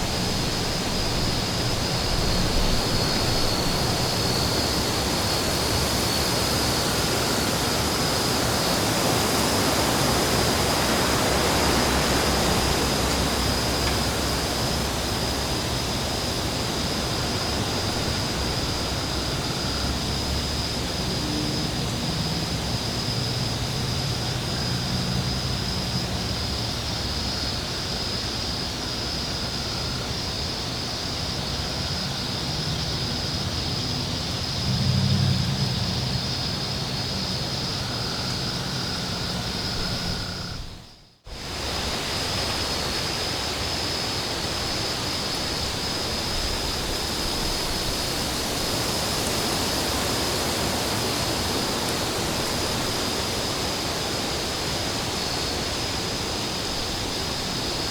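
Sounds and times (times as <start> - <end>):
rushing wind: 0.0 - 57.9.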